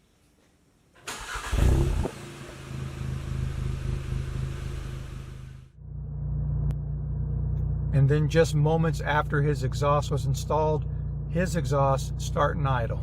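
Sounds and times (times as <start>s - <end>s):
car engine idling: 1.1s - 13.0s.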